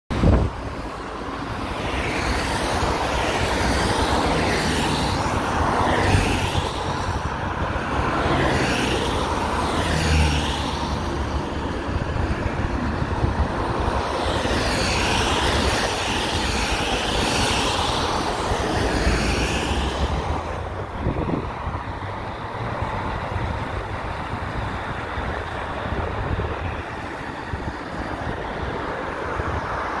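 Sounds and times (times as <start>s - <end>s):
cars swishing past on wet road: 0.2s - 30.0s.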